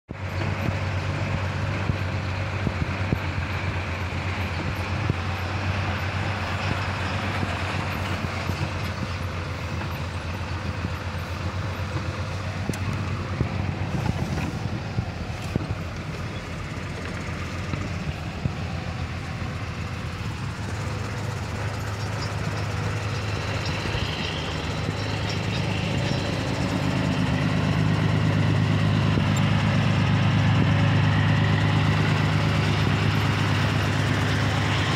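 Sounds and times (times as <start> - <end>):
road noise: 0.0 - 34.9
diesel truck engine idling: 0.1 - 34.9
diesel truck engine running: 0.1 - 34.9.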